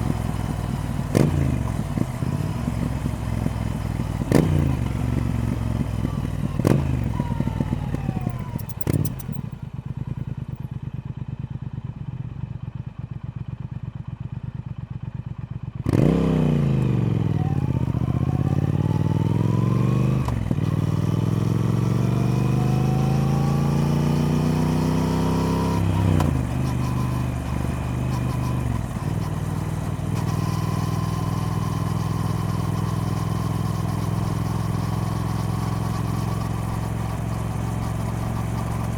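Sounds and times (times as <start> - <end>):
motorcycle engine revving: 0.0 - 12.3, 15.8 - 38.9.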